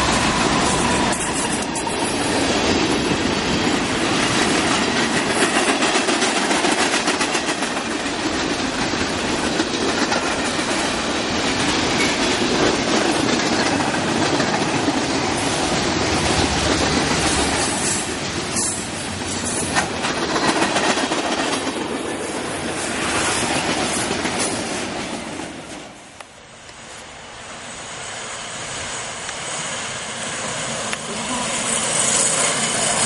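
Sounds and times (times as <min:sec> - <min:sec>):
wheels clicking over rail joints: 0:00.0 - 0:26.8
train rolling rumble and rattle: 0:00.0 - 0:33.0.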